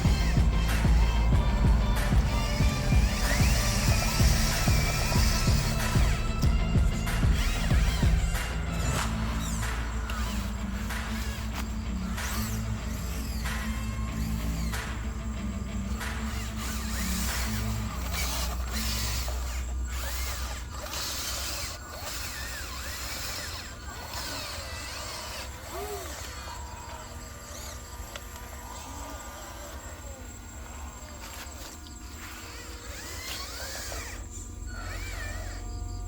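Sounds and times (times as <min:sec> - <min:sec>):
model truck motor whirring: 0:00.0 - 0:36.0.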